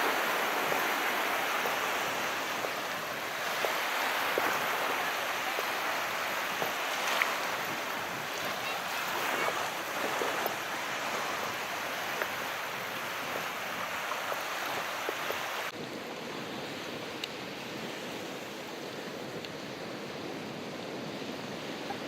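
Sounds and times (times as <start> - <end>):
surf washing: 0.0 - 22.0.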